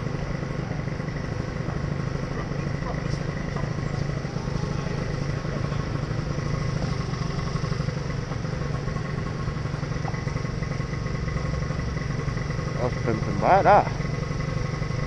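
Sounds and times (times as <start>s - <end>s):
scooter engine idling: 0.0s - 15.0s.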